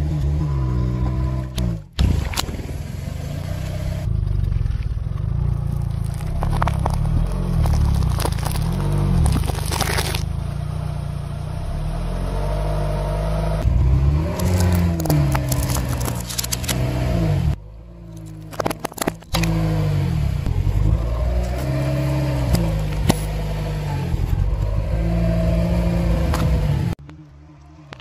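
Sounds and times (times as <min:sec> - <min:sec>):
car low rumble: 0:00.0 - 0:28.0.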